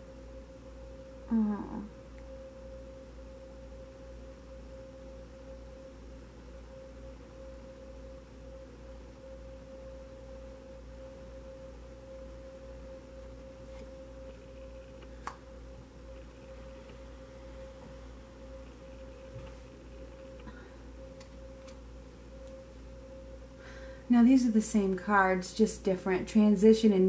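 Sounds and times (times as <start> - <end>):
faint steady pure tone: 0.0 - 27.0
low hum: 0.0 - 27.0.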